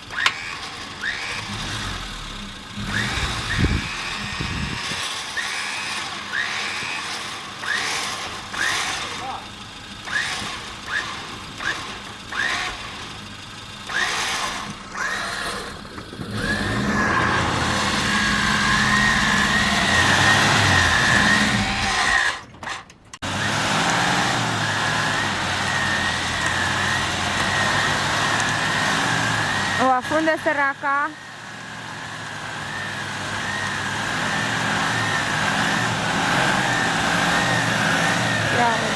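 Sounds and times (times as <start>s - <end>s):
car engine running under load: 0.0s - 38.9s
drivetrain whine: 0.0s - 38.9s
wheels spinning in snow: 0.0s - 38.9s.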